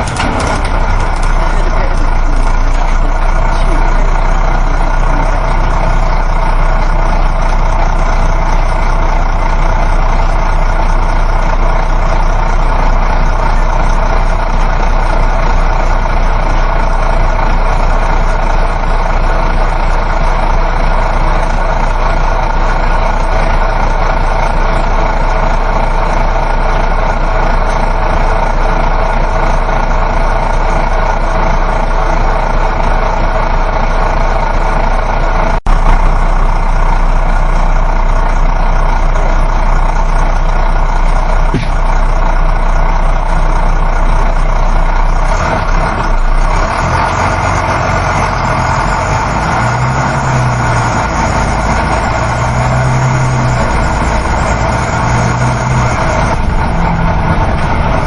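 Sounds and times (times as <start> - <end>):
bus engine drone: 0.0 - 58.0
road and tyre noise: 0.0 - 58.0.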